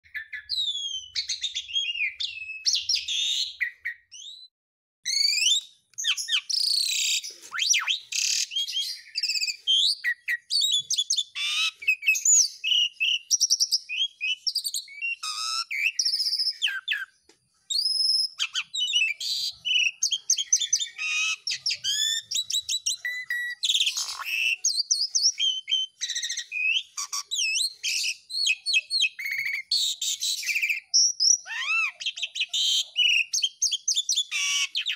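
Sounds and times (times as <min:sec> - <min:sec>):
starling singing: 0:00.0 - 0:34.9.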